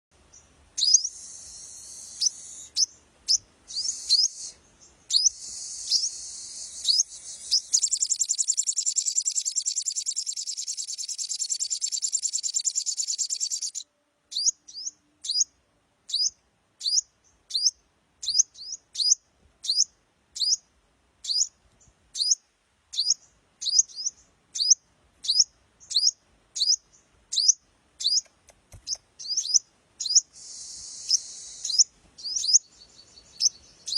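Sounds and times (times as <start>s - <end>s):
songbird chirping and trilling: 0.2s - 33.9s.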